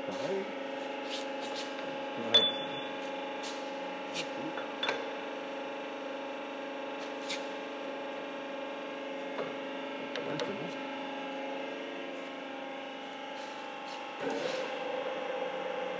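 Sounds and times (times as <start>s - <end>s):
electric motor hum: 3.0s - 15.9s.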